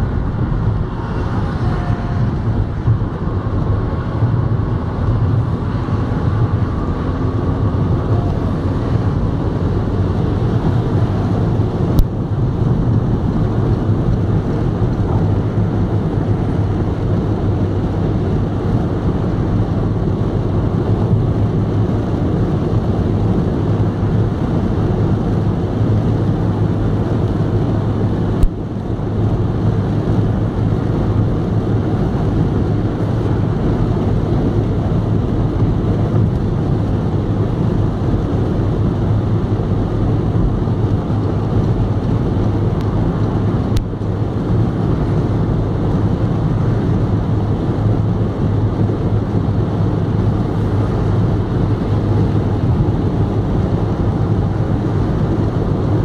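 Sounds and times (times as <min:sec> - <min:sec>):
car engine and tyre drone: 0:00.0 - 0:56.0
wind noise: 0:00.0 - 0:56.0.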